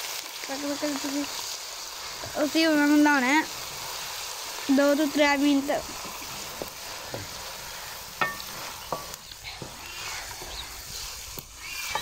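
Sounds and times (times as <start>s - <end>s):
hot oil sizzling in a pan: 0.0s - 12.0s
wooden spatula stirring: 2.1s - 12.0s.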